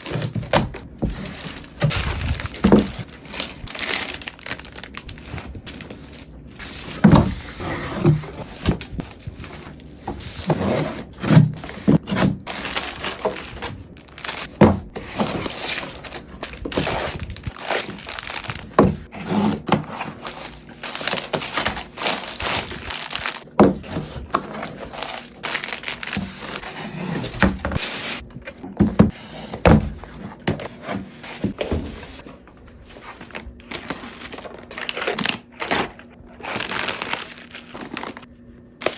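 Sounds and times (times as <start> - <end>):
packaging rustling and crinkling: 0.0 - 28.6, 29.9 - 38.9.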